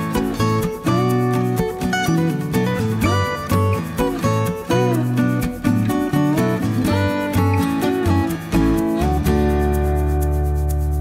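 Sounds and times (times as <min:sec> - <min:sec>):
acoustic guitar picking: 0:00.0 - 0:11.0.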